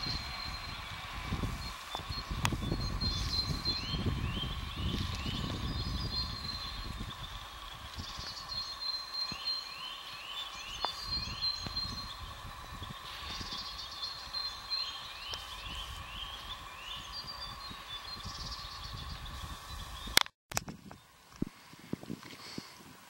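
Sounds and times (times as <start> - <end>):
songbirds singing with trill: 0.0 - 21.6
low wind rumble: 0.0 - 23.0.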